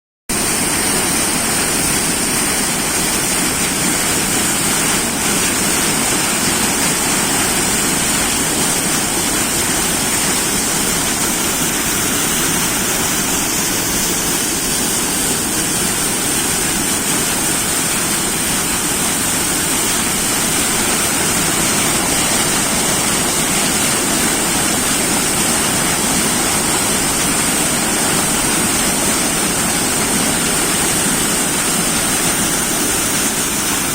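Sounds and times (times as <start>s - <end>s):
rushing water roar: 0.3s - 33.9s.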